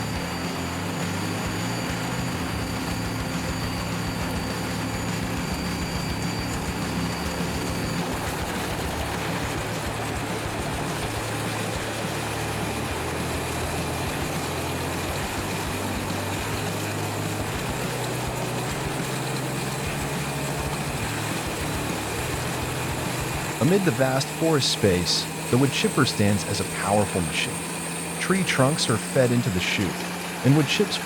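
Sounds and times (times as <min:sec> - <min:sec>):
wood chipper engine drone: 0:00.0 - 0:31.0.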